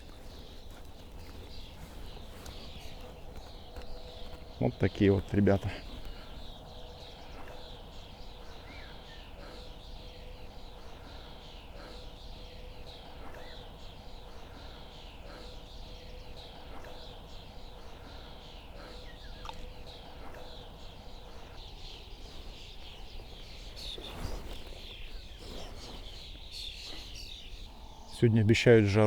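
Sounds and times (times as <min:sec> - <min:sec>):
birds singing: 0:00.0 - 0:29.0.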